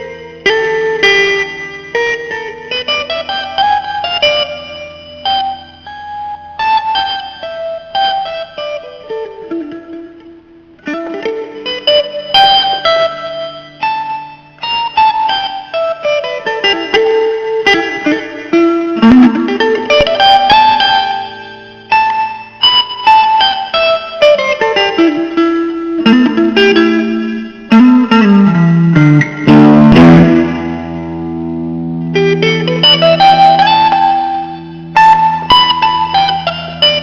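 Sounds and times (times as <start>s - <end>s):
blues guitar plucked notes: 0.0s - 37.0s.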